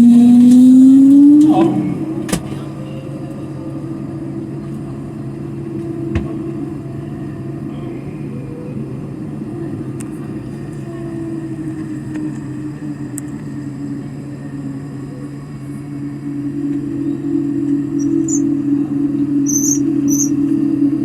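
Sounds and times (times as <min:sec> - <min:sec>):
jet engines droning in cabin: 0:00.0 - 0:21.0.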